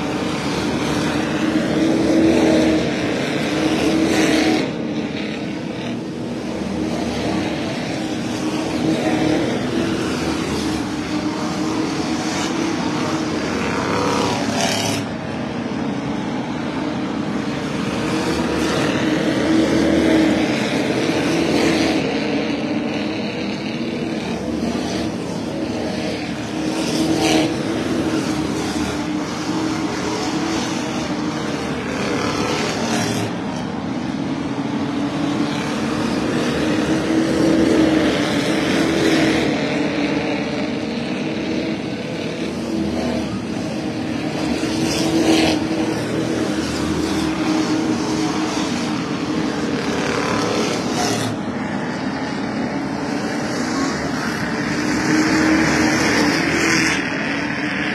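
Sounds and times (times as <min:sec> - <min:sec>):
race car engines droning: 0:00.0 - 0:57.9.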